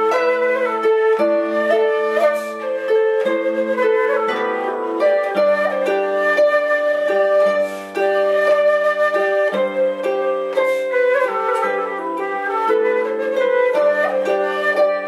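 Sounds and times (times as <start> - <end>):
harp plucking: 0.0 - 15.0
low whistle melody: 0.0 - 15.0.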